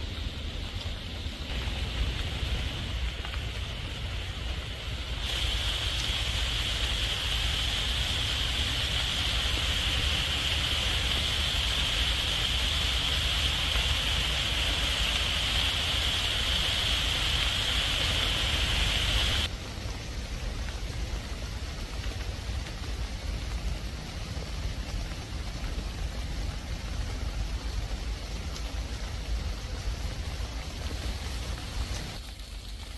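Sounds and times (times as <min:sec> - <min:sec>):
heavy rain on foliage: 0:00.0 - 0:32.9.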